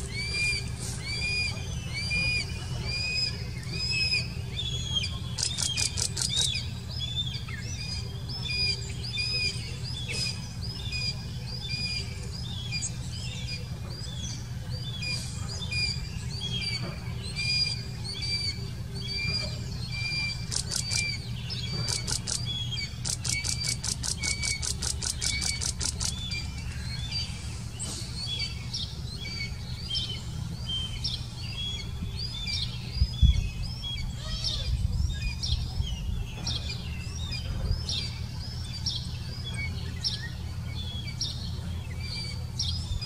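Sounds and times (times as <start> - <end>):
birds chirping: 0.0 - 43.0
birds chittering trills: 0.0 - 43.0
steady low hum: 0.0 - 43.0.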